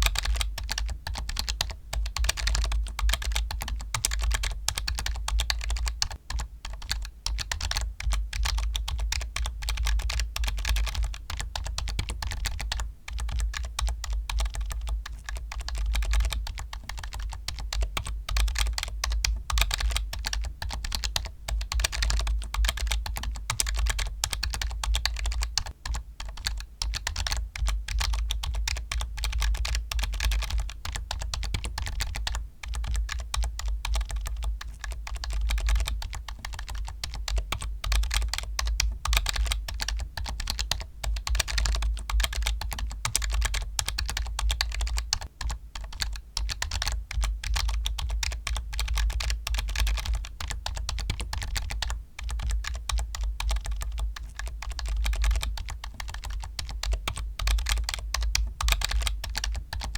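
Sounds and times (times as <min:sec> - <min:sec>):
keyboard typing: 0:00.0 - 0:59.9.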